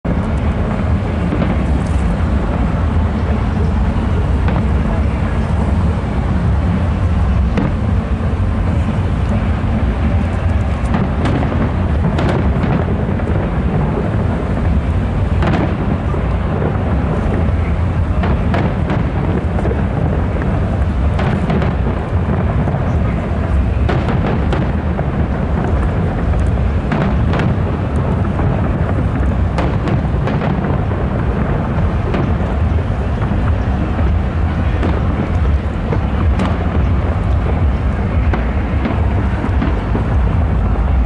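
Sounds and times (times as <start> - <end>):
fireworks bangs and crackles: 0.0 - 41.0
fireworks rumble: 0.0 - 41.0.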